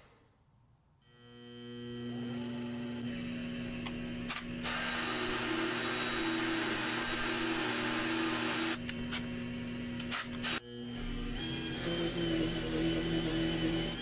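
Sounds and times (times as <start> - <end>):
drill motor whine: 1.0 - 8.9, 10.1 - 14.0
lathe motor hum: 1.2 - 14.0.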